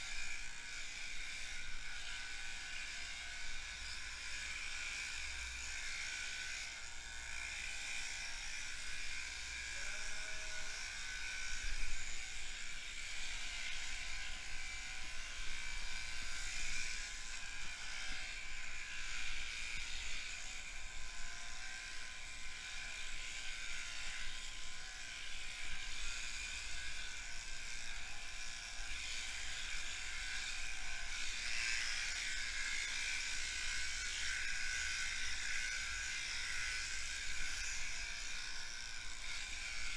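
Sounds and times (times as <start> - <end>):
electric shears buzzing: 0.0 - 39.9.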